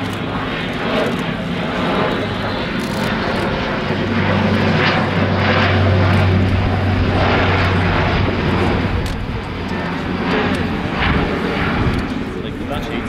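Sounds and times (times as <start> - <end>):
turboprop aircraft droning: 0.0 - 13.0.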